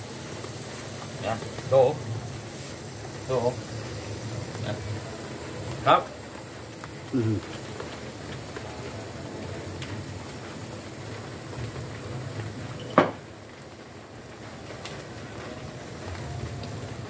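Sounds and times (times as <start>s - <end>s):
steak sizzling on grill pan: 0.0s - 17.0s.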